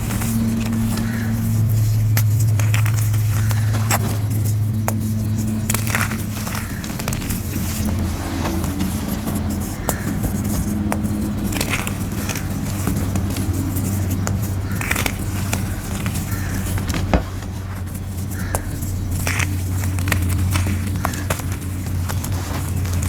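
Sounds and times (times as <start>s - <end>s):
chalk crackling and snapping: 0.0s - 23.0s.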